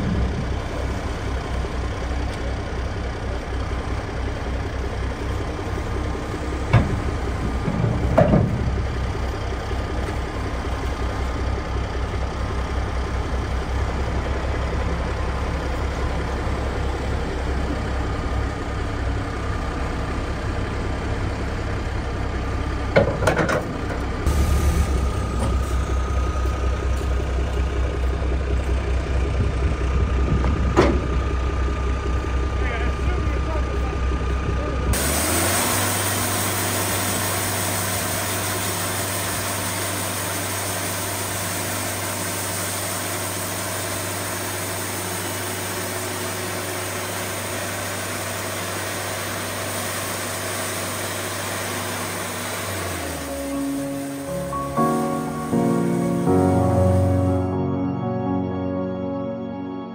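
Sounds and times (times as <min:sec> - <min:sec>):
large engine running: 0:00.0 - 0:59.8.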